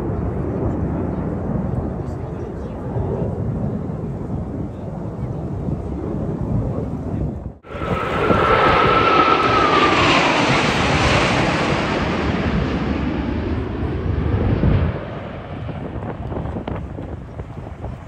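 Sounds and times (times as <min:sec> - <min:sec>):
jet aircraft flying past: 0:00.0 - 0:18.0.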